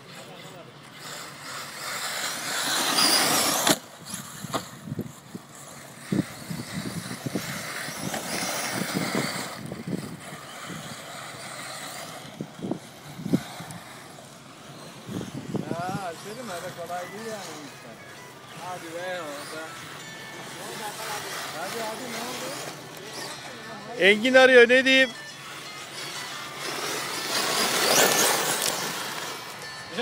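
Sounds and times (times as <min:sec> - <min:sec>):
radio-controlled cars hissing: 0:00.0 - 0:30.0.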